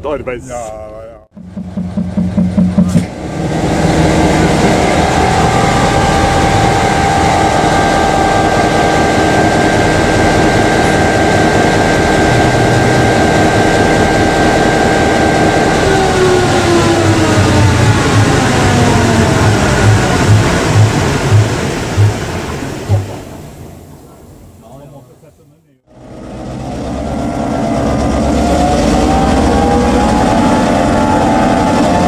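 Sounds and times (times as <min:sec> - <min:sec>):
diesel engine running: 0:01.1 - 0:24.8, 0:25.8 - 0:32.0
high whine: 0:01.2 - 0:24.7, 0:26.0 - 0:32.0.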